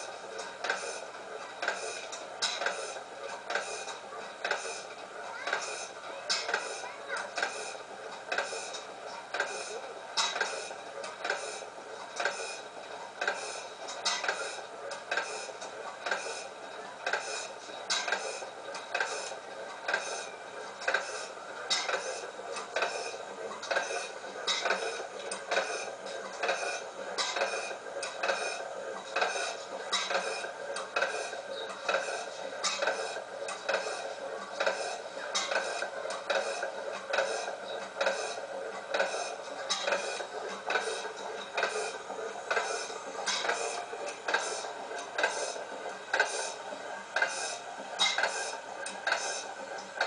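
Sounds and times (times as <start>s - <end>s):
gas engine clattering: 0.0s - 50.0s.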